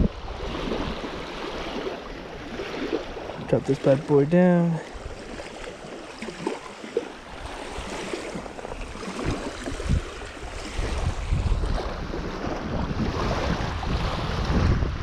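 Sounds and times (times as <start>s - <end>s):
wind buffeting microphone: 0.0s - 5.6s, 6.4s - 15.0s
small waves washing onto shore: 0.0s - 15.0s.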